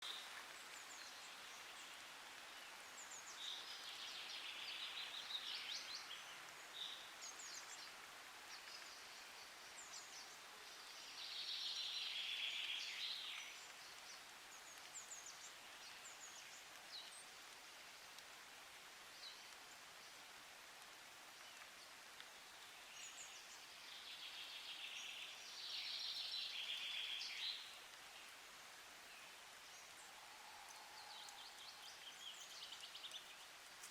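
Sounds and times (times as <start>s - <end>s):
faint outdoor hiss: 0.0s - 33.9s
songbird singing: 0.0s - 33.9s.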